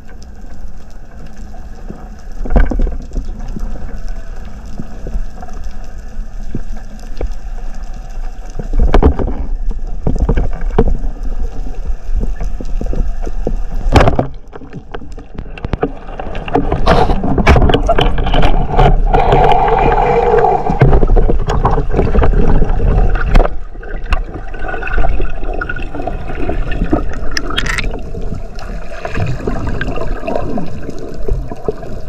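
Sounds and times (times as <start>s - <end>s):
clicks and knocks underwater: 0.0s - 32.0s
underwater rush of moving water: 0.0s - 32.0s.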